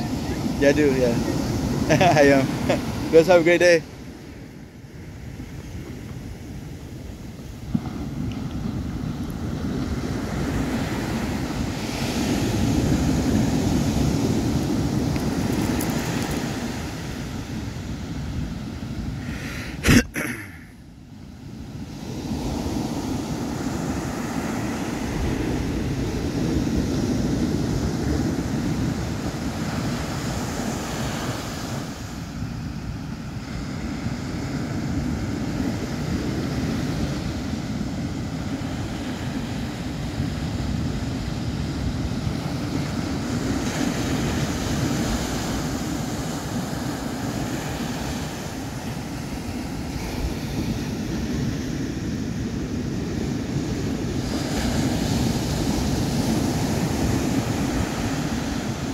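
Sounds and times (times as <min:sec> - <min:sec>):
surf washing up a beach: 0:00.0 - 0:58.9.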